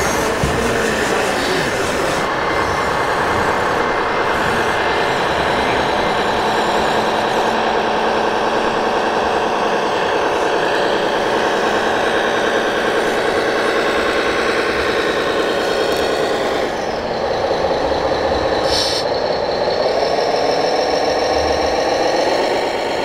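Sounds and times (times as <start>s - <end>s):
model truck engine sound: 0.0s - 23.0s.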